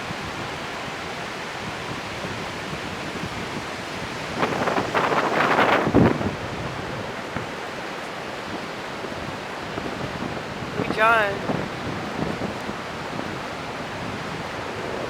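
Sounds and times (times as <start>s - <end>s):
ocean surf rushing: 0.0s - 15.0s
strong wind buffeting microphone: 0.0s - 15.0s.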